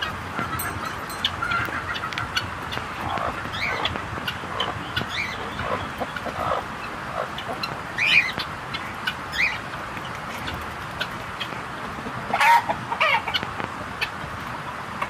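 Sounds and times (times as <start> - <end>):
hens clucking: 0.0 - 14.3.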